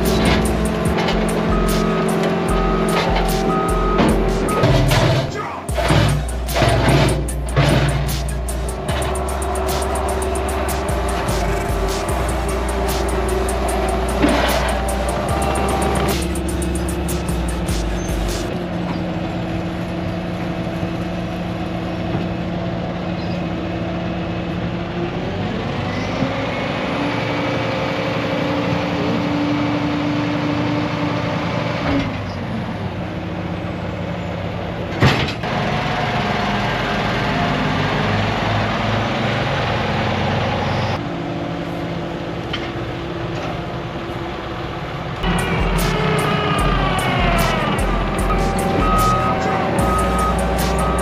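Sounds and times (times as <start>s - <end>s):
heavy machinery engine running: 0.0s - 51.0s.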